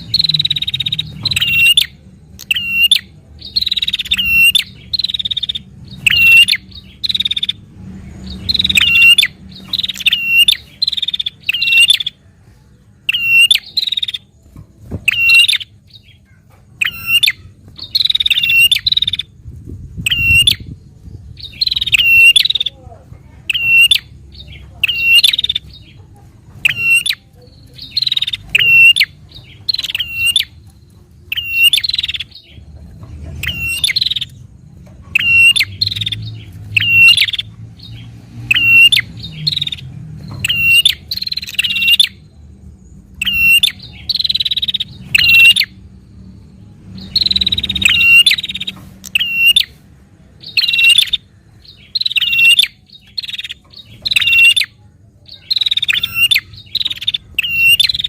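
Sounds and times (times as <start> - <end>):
bird chirping calls: 0.0 - 58.0.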